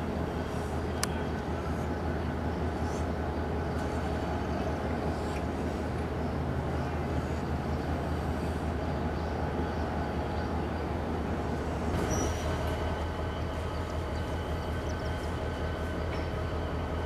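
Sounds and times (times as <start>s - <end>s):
locomotive engine rumble: 0.0s - 17.0s.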